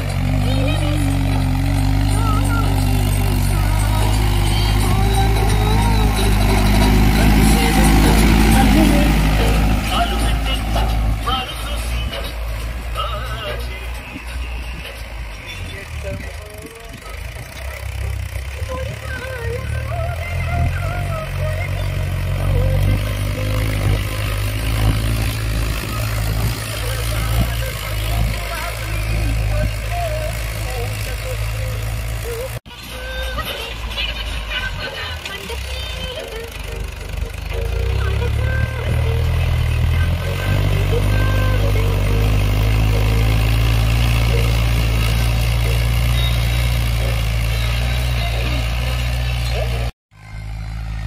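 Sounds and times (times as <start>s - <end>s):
tractor engine under load: 0.0s - 51.0s.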